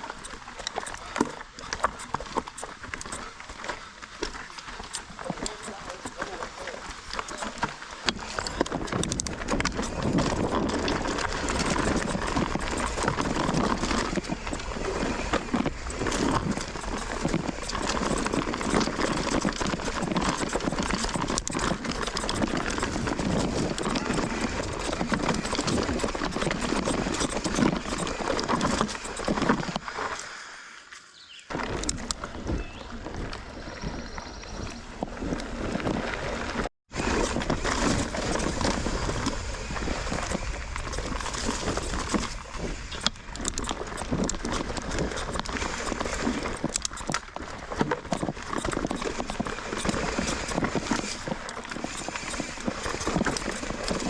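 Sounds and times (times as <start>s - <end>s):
bike rattling over rocks: 0.0s - 30.2s, 31.5s - 54.0s
tyres crunching: 0.0s - 30.2s, 31.5s - 54.0s.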